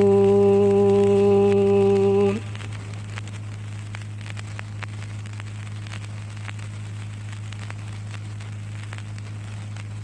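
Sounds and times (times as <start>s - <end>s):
even hiss: 0.0s - 10.0s
faint crackles and clicks: 0.0s - 10.0s
low electrical hum: 0.0s - 10.0s.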